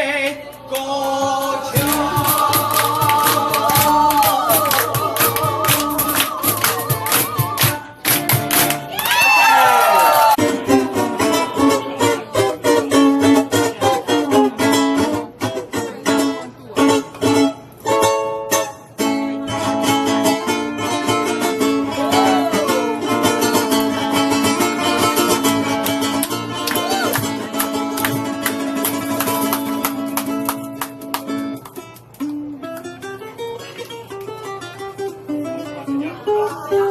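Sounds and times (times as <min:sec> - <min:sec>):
ukuleles strumming chords: 0:00.0 - 0:09.6, 0:10.3 - 0:36.9.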